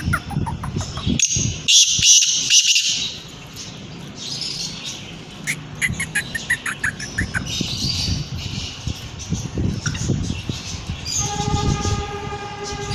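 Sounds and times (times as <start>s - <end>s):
birds harsh calls: 0.0s - 12.9s.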